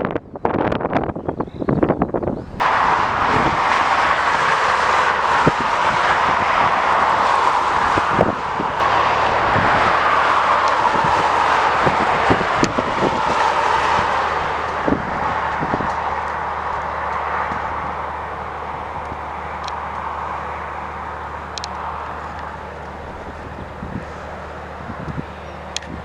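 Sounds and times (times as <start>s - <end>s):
jet airliner engines running: 0.3s - 26.0s.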